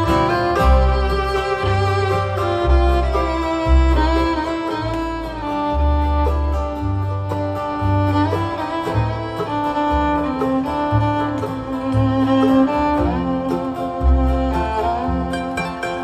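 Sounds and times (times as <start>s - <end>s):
fiddle melody with sliding notes: 0.0s - 16.0s
steady bass line: 0.0s - 16.0s.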